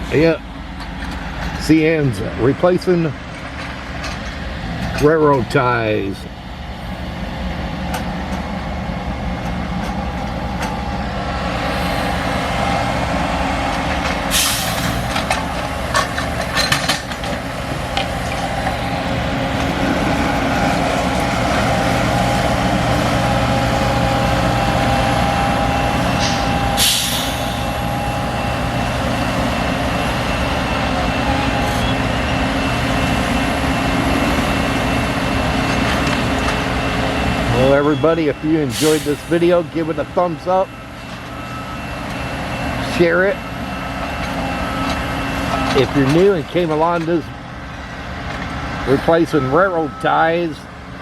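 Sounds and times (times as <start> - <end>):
machinery engines running: 0.0 - 51.0.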